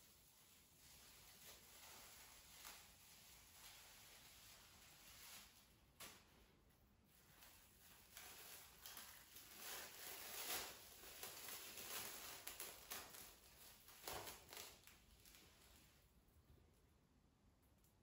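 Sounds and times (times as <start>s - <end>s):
plastic cling film crinkling: 0.0s - 16.1s.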